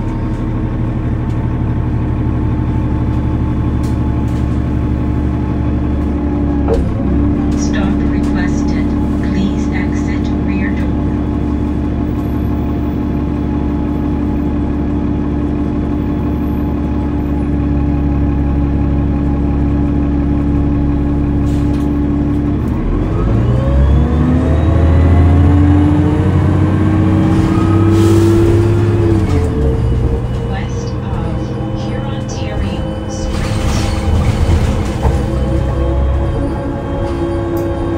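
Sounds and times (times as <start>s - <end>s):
bus diesel engine: 0.0s - 37.9s.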